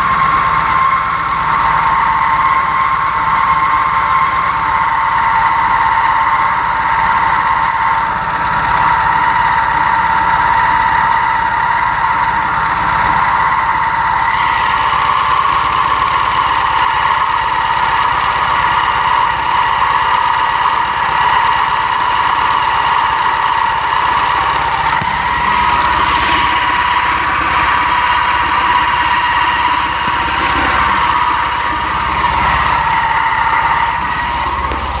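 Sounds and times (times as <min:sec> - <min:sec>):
clutch squealing: 0:00.0 - 0:35.0
engine running: 0:00.0 - 0:35.0.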